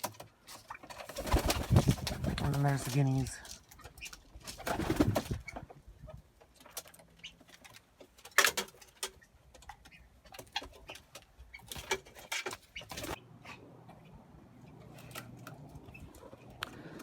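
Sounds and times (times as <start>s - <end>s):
birds rustling: 0.0s - 17.0s
poultry and pigeons calling: 0.0s - 17.0s.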